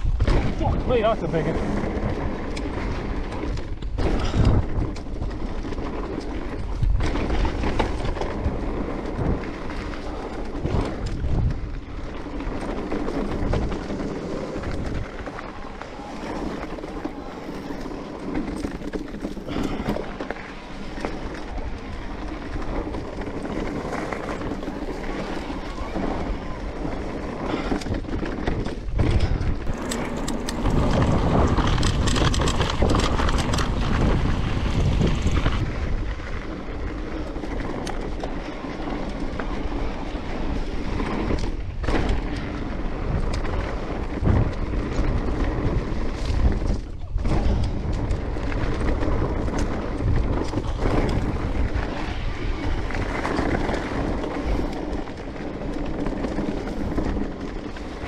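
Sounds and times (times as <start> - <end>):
bike rattling and knocking: 0.0 - 58.0
bike tyres on dirt trail: 0.0 - 58.0.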